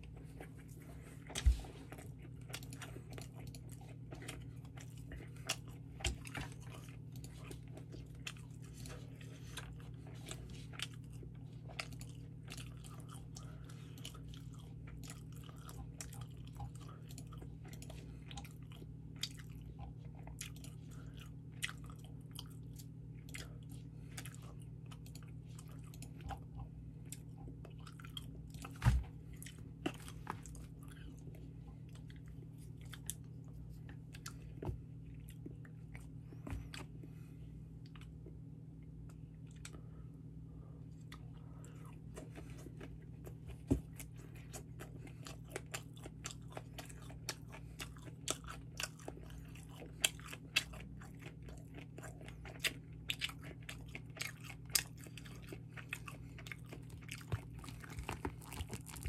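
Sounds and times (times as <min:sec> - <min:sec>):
chewing with wet mouth clicks: 0:00.0 - 0:37.0, 0:37.8 - 0:39.9, 0:40.8 - 0:59.0
low hum: 0:00.0 - 0:49.4.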